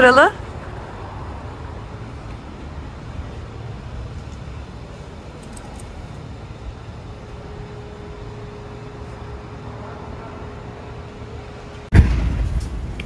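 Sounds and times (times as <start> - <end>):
low rumble of passing vehicles: 0.0 - 13.0.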